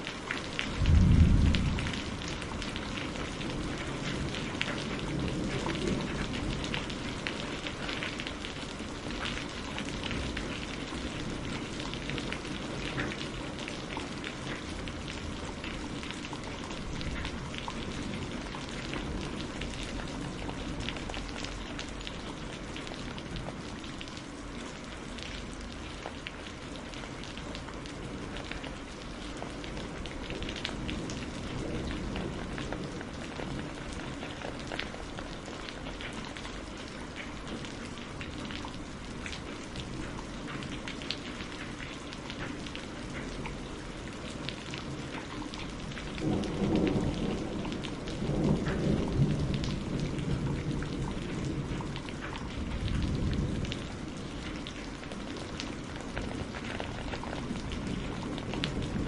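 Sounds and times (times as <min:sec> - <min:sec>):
rain drops ticking: 0:00.0 - 0:59.0
rain falling: 0:00.0 - 0:59.0.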